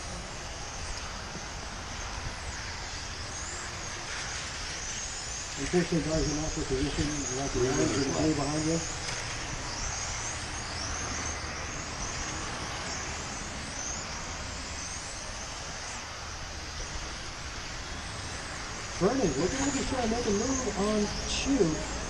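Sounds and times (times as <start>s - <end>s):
background hiss: 0.0s - 22.0s
rc car motors whining: 0.0s - 22.0s.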